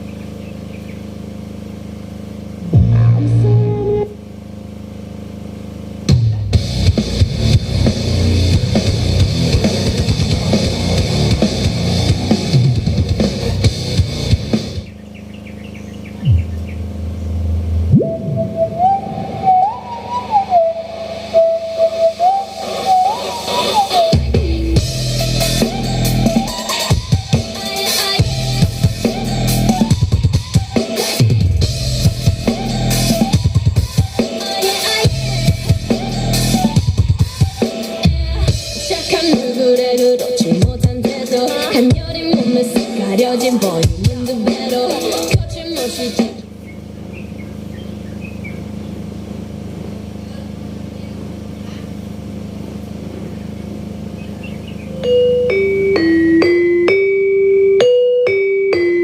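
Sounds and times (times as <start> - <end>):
music with heavy bass and drums: 0.0 - 59.0.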